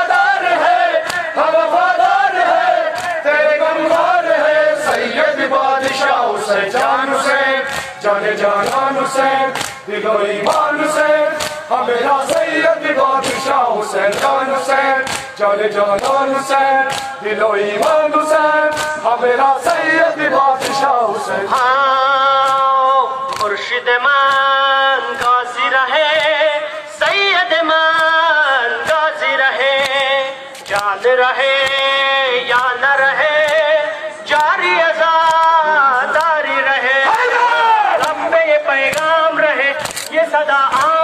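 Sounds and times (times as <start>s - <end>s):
men chanting in unison: 0.0s - 41.0s
rhythmic chest-beating slaps: 0.0s - 41.0s.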